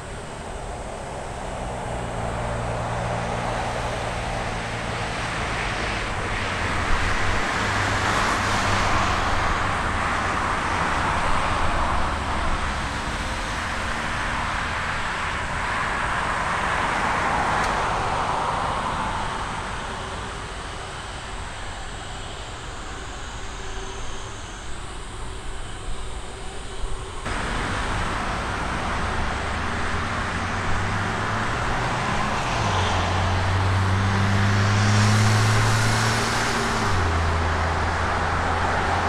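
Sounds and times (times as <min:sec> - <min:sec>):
jet engines at taxi power: 0:00.0 - 0:39.0.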